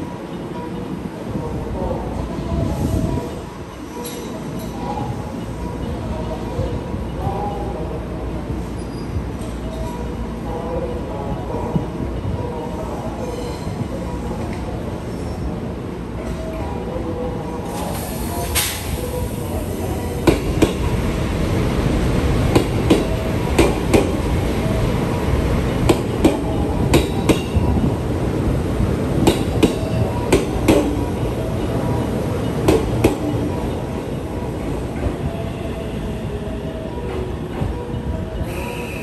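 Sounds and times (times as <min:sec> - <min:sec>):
train rumble: 0:00.0 - 0:39.0.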